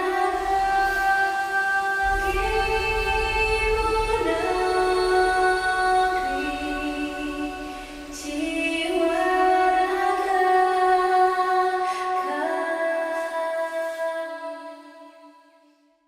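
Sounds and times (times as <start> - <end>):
woman singing long notes: 0.0 - 14.8.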